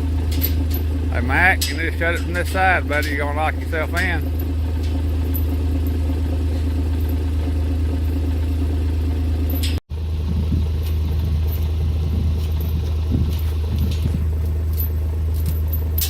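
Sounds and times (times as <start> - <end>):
light rattles: 0.0 - 16.0
utility vehicle engine running: 0.0 - 16.0.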